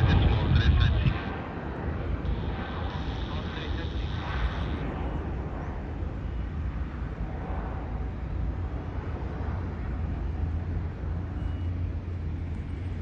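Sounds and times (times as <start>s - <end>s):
jet engines low rumble: 0.0s - 13.0s.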